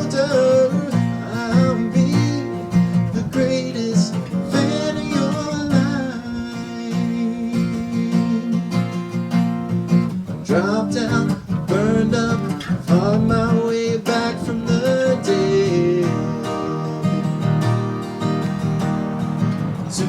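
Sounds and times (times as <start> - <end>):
person singing: 0.0 - 9.0, 10.5 - 17.6
strummed acoustic guitar: 0.0 - 20.0.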